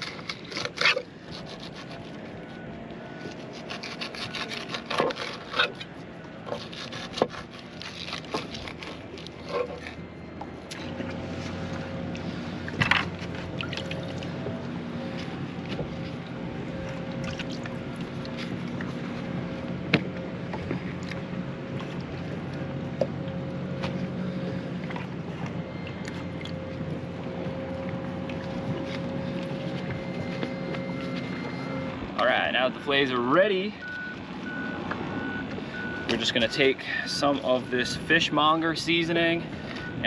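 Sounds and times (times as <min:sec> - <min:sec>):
boat motor droning: 0:00.0 - 0:40.0.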